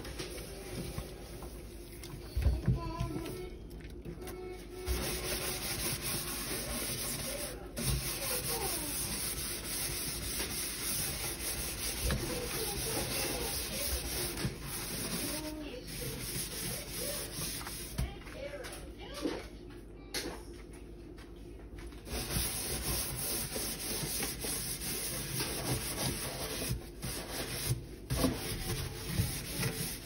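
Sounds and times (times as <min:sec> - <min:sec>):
scouring pad scrubbing metal sink: 0:00.0 - 0:03.4, 0:04.8 - 0:18.2, 0:22.1 - 0:30.0.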